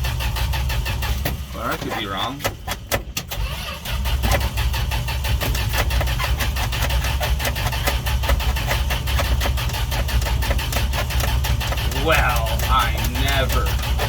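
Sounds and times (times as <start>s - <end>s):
pickup engine cranking on starter: 0.0s - 14.0s.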